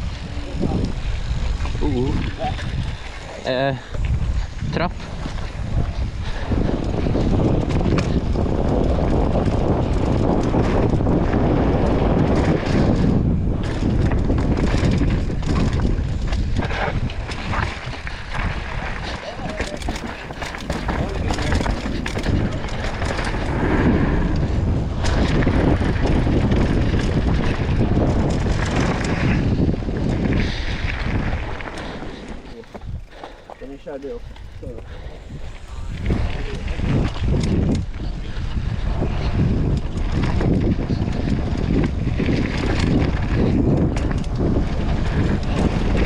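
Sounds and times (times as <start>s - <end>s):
bike clattering over rough trail: 0.0s - 46.0s
wind buffeting microphone: 0.0s - 46.0s.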